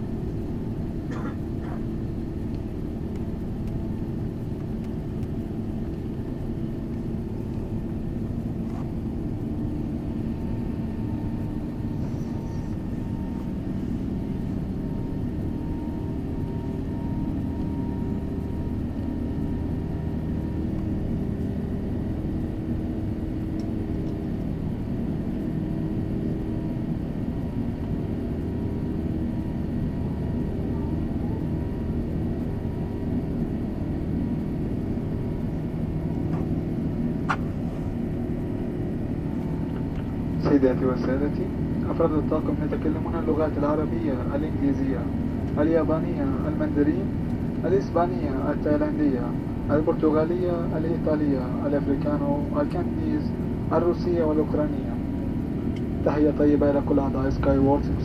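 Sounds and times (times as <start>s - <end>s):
airplane engine drone in cabin: 0.0s - 58.0s.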